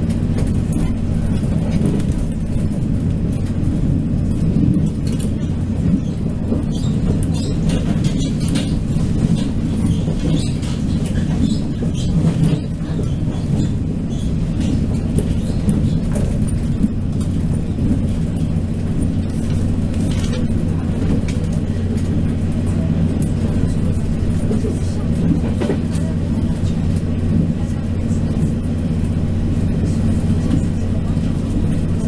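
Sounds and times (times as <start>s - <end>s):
low engine drone: 0.0s - 32.0s
wheel and rail rumble: 0.0s - 32.0s.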